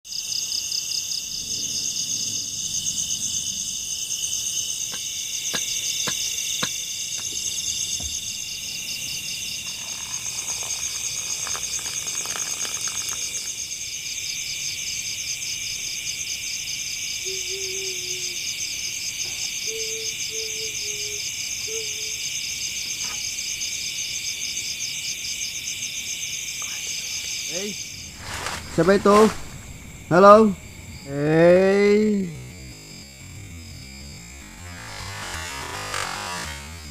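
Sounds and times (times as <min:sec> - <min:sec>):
shrill pulsing insect trill: 0:00.1 - 0:36.9.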